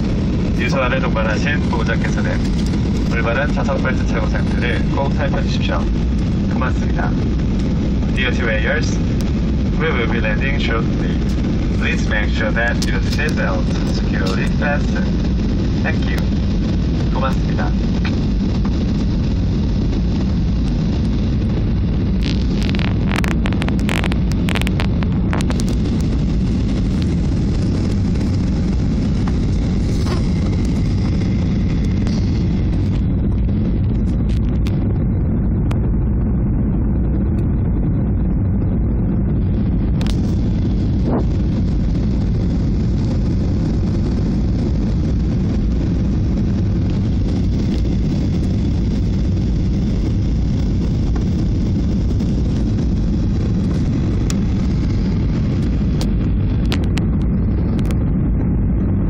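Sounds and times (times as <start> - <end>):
airflow and jet engine roar: 0.0 - 59.0.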